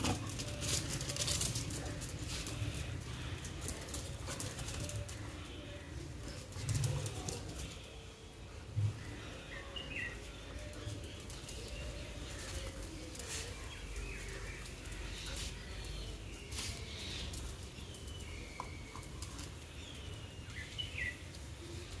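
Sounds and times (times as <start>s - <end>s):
birds chirping: 0.1s - 22.0s.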